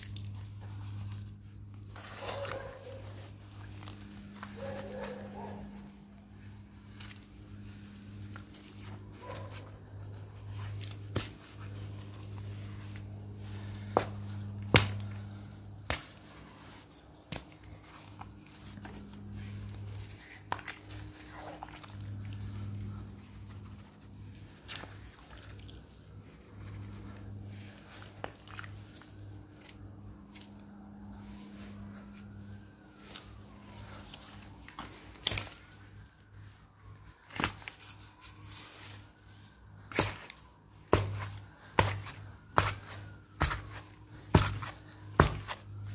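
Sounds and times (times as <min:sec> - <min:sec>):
mud squelching: 0:00.0 - 0:45.9.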